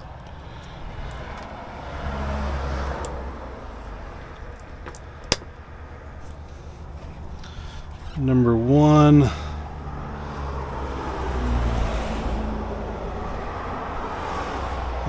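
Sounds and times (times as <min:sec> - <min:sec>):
v eight engine idling: 0:00.0 - 0:15.0.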